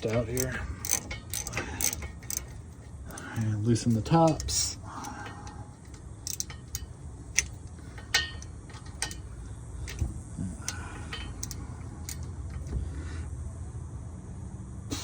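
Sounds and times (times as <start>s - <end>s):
wrench clicking on bolts: 0.0s - 12.7s
low steady hum: 0.0s - 15.0s.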